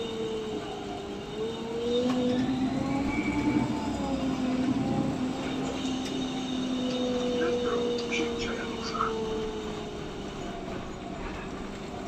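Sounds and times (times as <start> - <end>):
bus engine whine: 0.0 - 12.0.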